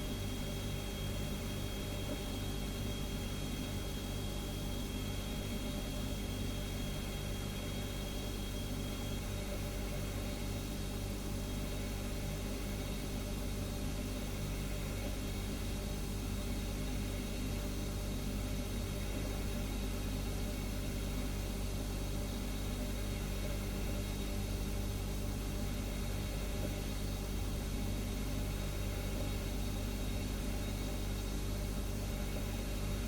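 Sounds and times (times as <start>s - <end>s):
refrigerator humming: 0.0s - 33.0s.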